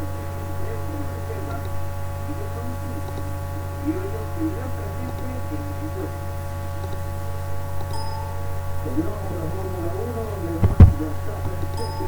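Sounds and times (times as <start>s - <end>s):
faint indistinct voices: 0.0s - 7.7s, 8.8s - 12.0s
electrical mains hum: 0.0s - 12.0s.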